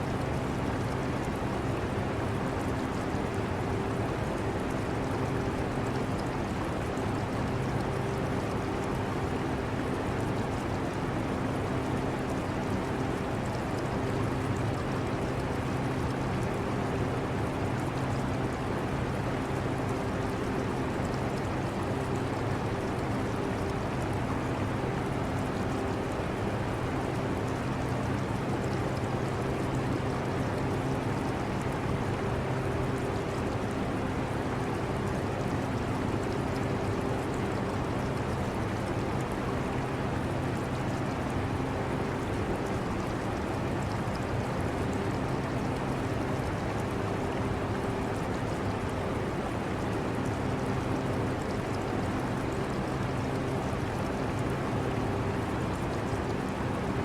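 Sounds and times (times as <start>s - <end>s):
aquarium water trickling: 0.1s - 57.0s.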